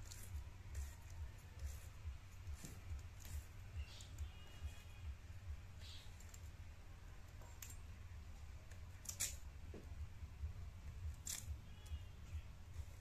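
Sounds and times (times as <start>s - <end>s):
faint low rumble: 0.0s - 13.0s.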